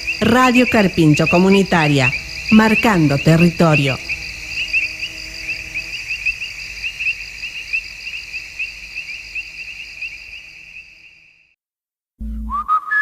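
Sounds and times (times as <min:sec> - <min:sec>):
crickets chirping: 0:00.0 - 0:11.6.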